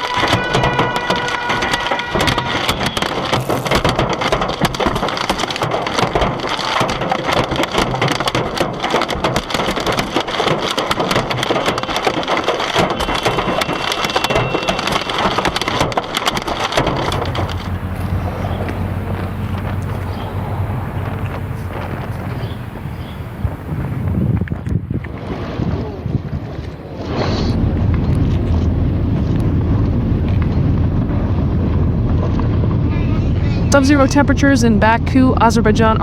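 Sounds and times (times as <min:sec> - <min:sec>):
hailstones pelting a car: 0:00.0 - 0:24.4, 0:27.4 - 0:33.6.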